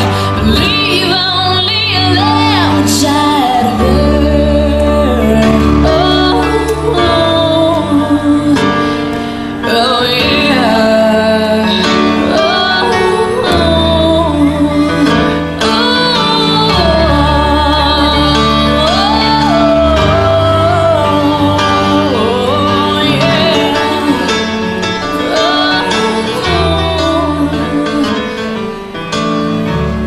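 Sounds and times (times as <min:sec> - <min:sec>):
woman singing a ballad: 0:00.0 - 0:28.9
instrumental accompaniment: 0:00.0 - 0:30.0.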